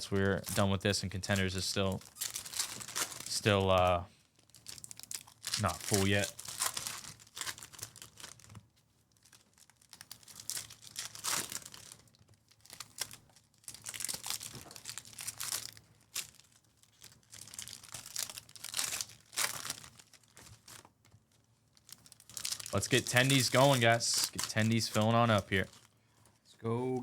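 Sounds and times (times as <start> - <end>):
plastic wrappers tearing and crinkling: 0.0 - 26.0.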